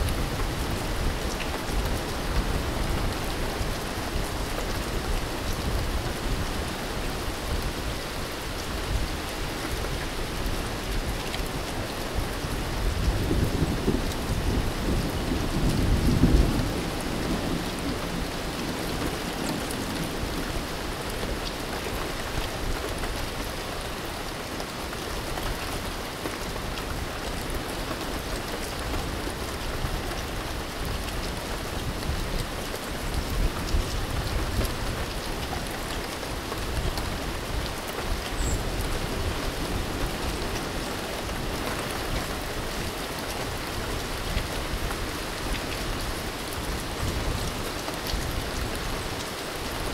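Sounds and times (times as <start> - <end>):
rain falling on water: 0.0 - 49.9.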